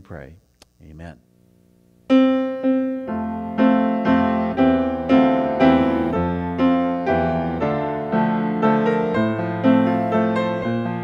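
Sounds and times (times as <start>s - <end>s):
piano playing a hymn: 2.1s - 11.0s.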